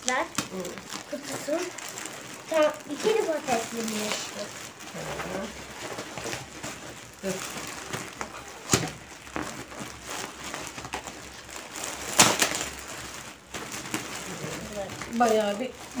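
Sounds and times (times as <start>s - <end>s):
plastic packaging crinkling: 0.0s - 16.0s
sharp plastic crackles: 0.0s - 16.0s.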